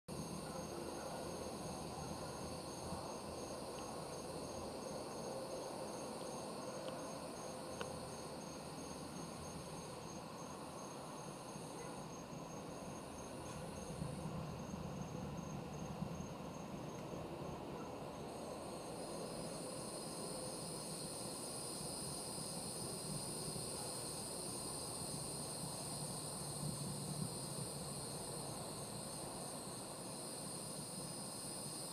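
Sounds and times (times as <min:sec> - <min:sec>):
crickets trilling: 0:00.1 - 0:31.9
fast pulsing cricket chirp: 0:00.1 - 0:31.9.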